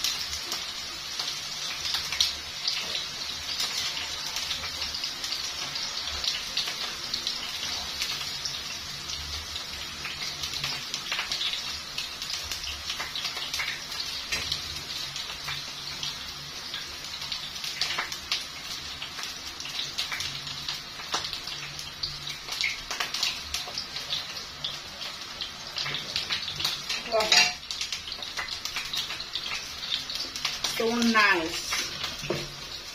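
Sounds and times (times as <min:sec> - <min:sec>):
chips sizzling in hot oil: 0:00.0 - 0:32.9.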